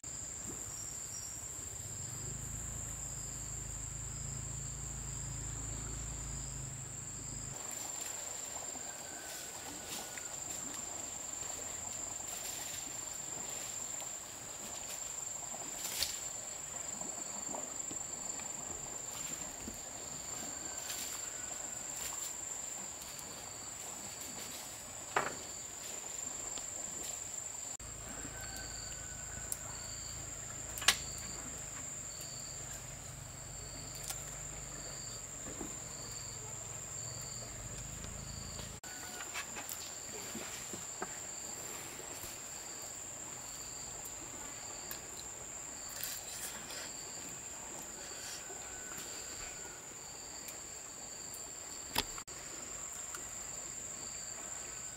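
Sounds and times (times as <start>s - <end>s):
insect chirp pulsing: 0.0s - 54.9s
insects droning: 0.0s - 54.9s.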